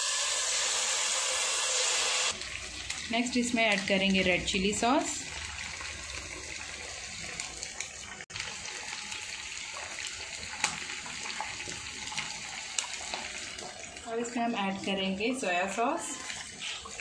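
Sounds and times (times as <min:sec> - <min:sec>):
sauce sizzling in a pot: 0:00.0 - 0:17.0.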